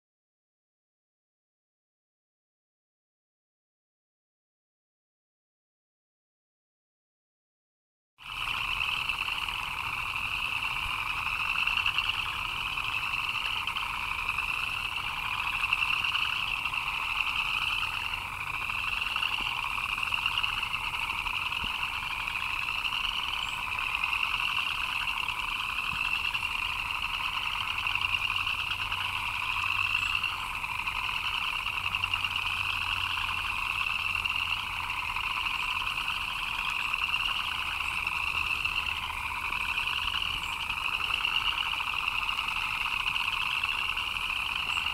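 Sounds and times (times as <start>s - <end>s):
frogs chirping in chorus: 8.2s - 44.9s.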